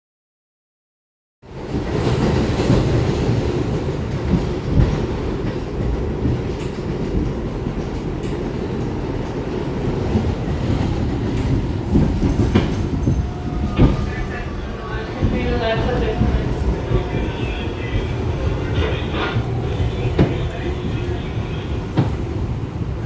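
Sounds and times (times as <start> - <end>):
train wheels rumbling on rails: 1.4 - 23.0.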